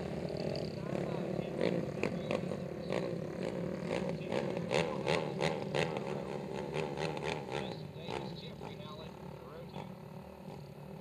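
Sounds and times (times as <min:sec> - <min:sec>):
quad engines revving: 0:00.0 - 0:11.0.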